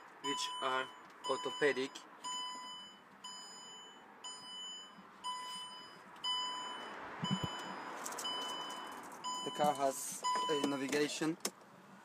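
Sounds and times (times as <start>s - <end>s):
dashboard warning chime beeping: 0.2s - 11.2s.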